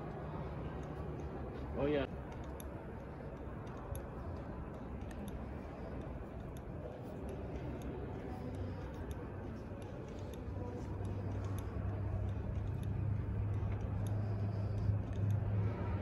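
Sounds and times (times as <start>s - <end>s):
low hum of hall: 0.0s - 16.0s
faint light ticks: 2.2s - 16.0s.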